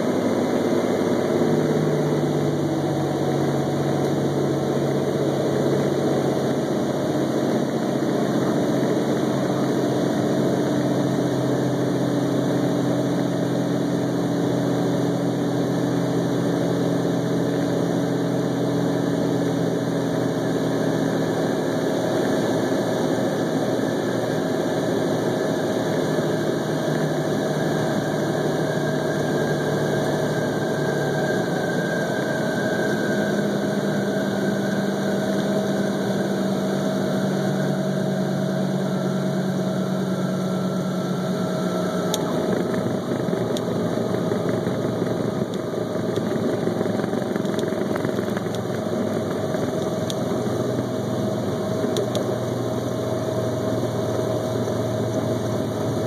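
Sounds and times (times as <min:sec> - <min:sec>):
aircraft piston engine and propeller: 0:00.0 - 0:56.0.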